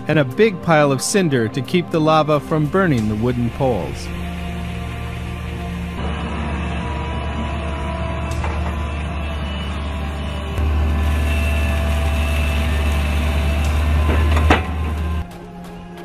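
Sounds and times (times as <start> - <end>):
excavator diesel engine running: 2.5 - 16.0.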